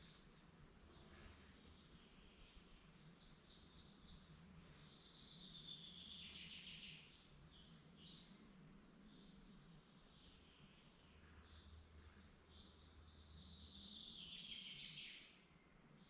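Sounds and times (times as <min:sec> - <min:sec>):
faint woodland birdsong: 0:00.0 - 0:16.0.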